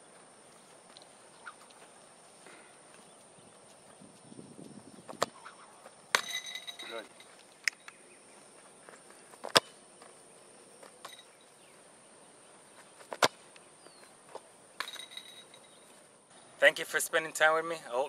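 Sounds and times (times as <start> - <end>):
faint high insect drone: 0.0 - 18.0.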